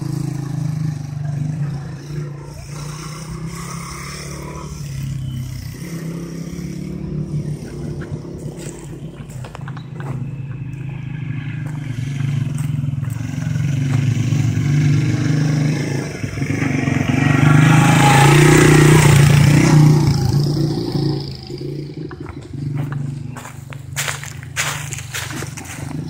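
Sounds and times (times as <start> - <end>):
dirt bike engine passing: 0.0 - 26.0.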